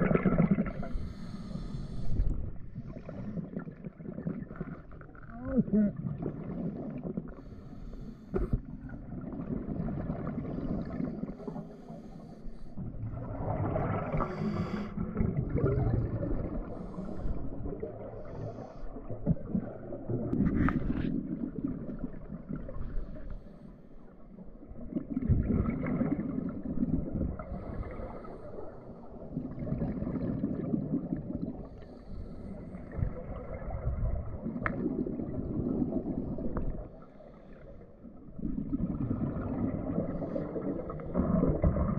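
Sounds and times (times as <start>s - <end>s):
exhaled air bubbling underwater: 0.0s - 41.9s.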